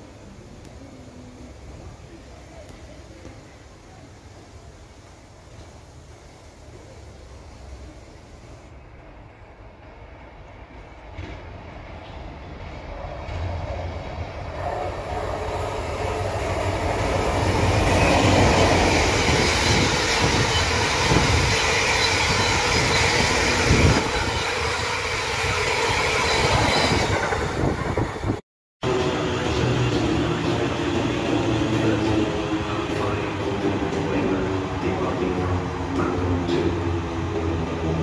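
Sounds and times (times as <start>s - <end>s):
train rumbling and clattering: 4.9s - 6.9s, 7.6s - 38.0s.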